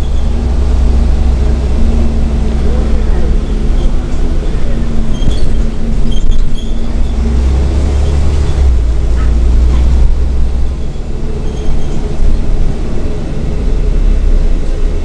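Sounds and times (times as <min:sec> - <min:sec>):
bus diesel engine droning: 0:00.0 - 0:15.0.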